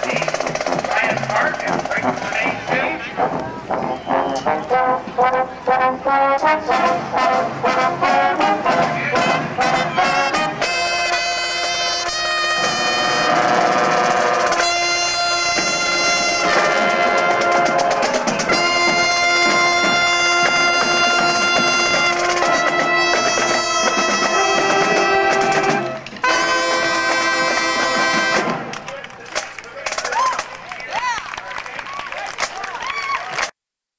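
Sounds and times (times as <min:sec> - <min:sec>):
marching band brass playing: 0:00.0 - 0:29.0.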